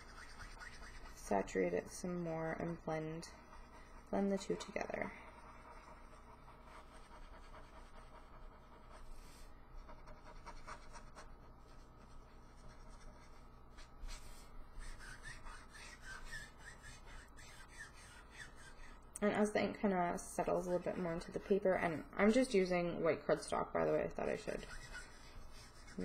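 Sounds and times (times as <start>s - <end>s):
marker scratching on cardstock: 0.0s - 19.0s, 23.8s - 26.0s.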